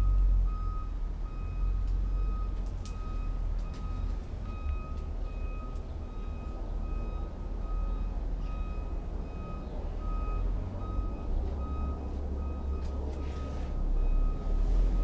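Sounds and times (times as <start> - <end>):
vehicle reversing alarm beeping: 0.0 - 15.0.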